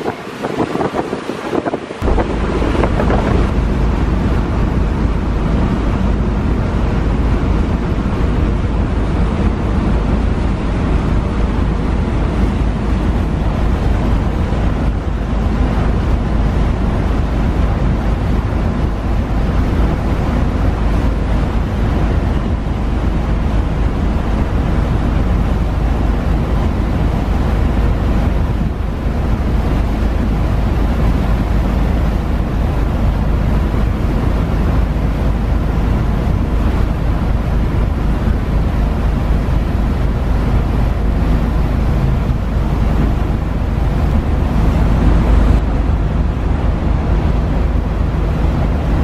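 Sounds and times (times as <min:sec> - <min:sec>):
heavy low rumble: 0:00.0 - 0:49.0
rushing water: 0:00.0 - 0:49.0
wind buffeting microphone: 0:00.0 - 0:49.0.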